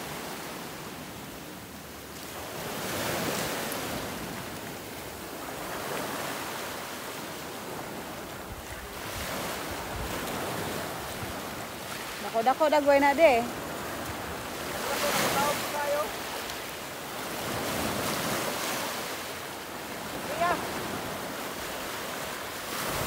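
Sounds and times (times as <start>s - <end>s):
sea waves washing against rocks: 0.0s - 23.0s
wind: 0.0s - 23.0s.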